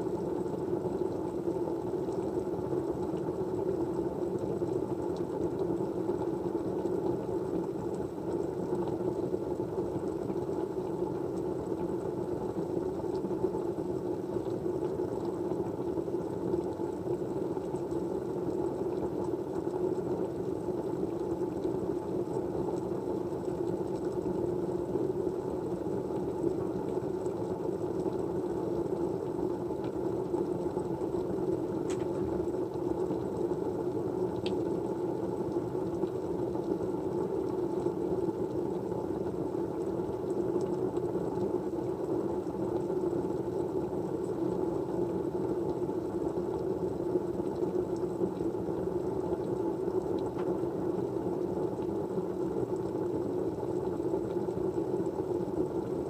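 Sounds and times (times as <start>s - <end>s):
white noise with low hum: 0.0s - 56.0s.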